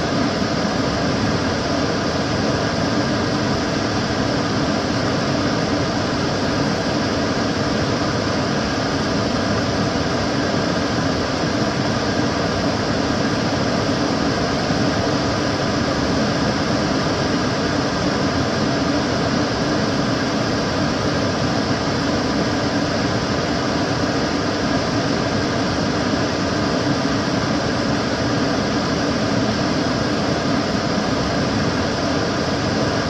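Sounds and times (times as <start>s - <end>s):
cooker hood extractor fan: 0.0s - 33.0s.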